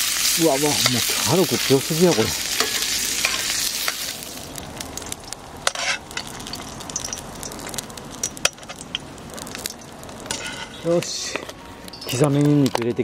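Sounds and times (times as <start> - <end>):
vegetables sizzling in oil: 0.0 - 11.3
sharp clicks and crackles: 1.9 - 13.0.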